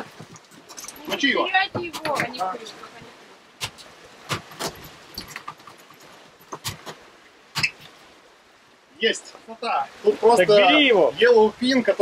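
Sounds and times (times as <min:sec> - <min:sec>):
wind and sea hiss: 0:00.0 - 0:12.0.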